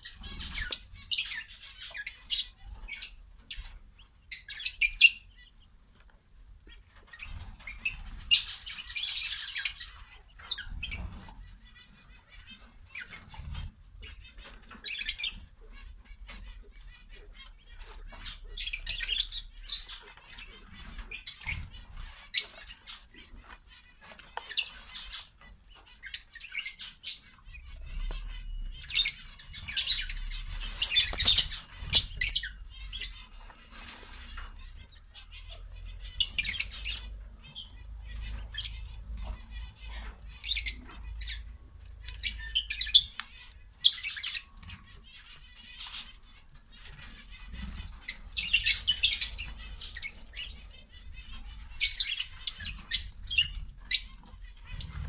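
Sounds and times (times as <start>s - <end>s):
quail pecking and rustling: 0.0s - 55.0s.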